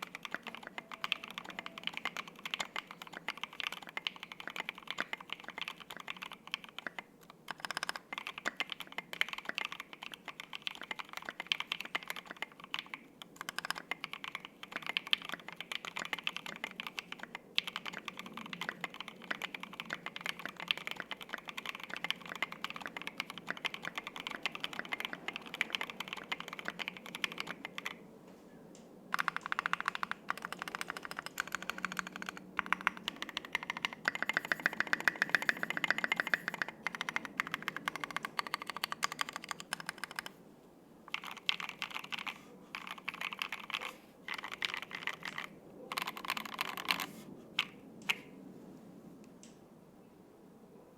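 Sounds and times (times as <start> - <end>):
typing on mechanical keyboard: 0.0 - 28.0, 29.1 - 40.4, 41.1 - 48.3.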